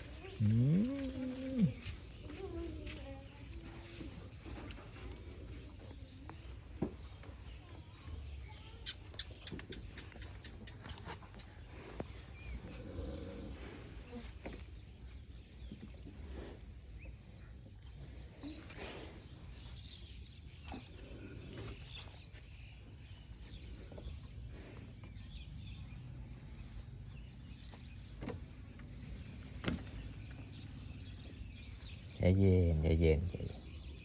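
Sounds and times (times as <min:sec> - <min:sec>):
faint farm animal sounds: 0:00.0 - 0:34.0.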